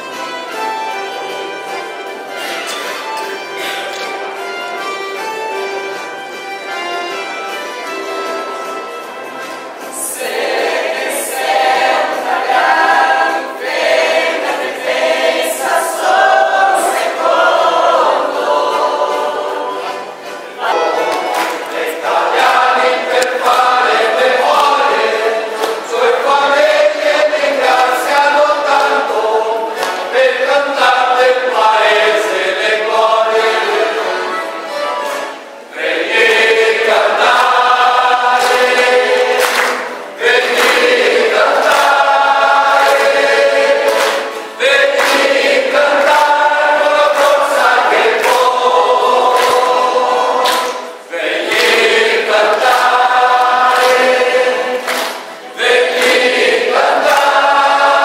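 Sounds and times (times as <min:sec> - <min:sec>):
men's choir singing: 0:09.9 - 0:58.0.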